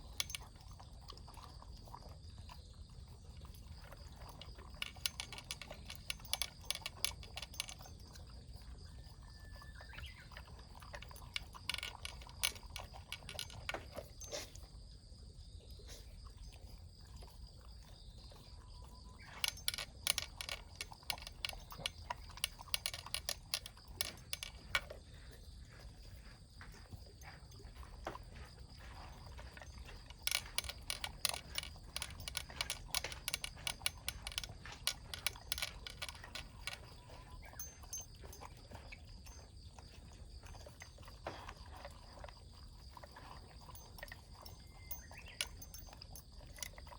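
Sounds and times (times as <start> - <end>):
pet crunching food: 0.0 - 8.8, 10.2 - 14.6, 16.6 - 26.3, 26.9 - 46.9.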